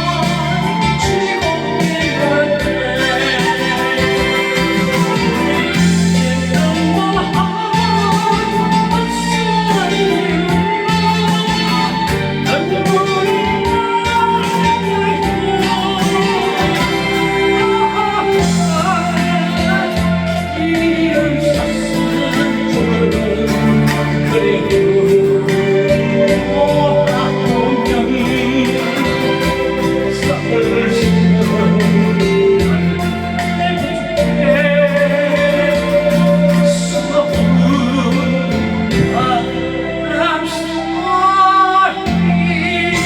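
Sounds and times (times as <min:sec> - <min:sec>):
backing track with steady beat: 0:00.0 - 0:43.0
person singing a ballad: 0:00.0 - 0:43.0.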